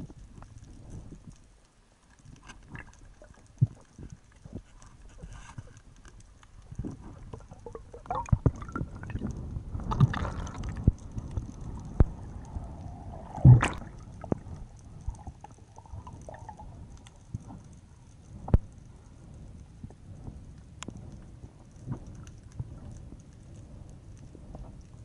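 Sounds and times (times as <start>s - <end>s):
underwater gurgling and sloshing: 0.0s - 25.0s.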